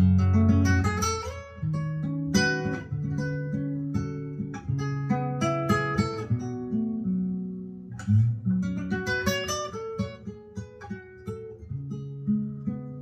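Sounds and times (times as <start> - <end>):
acoustic guitar through loudspeakers: 0.0 - 13.0.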